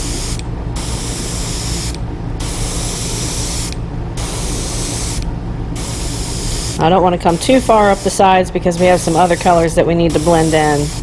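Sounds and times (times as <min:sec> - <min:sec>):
airbrush spraying hiss: 0:00.0 - 0:05.2, 0:05.8 - 0:11.0.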